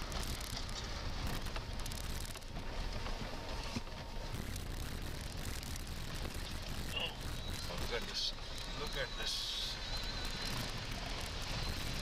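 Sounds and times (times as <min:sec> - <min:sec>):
car rumbling over gravel road: 0:00.0 - 0:12.0
stones clicking and rattling: 0:00.0 - 0:12.0.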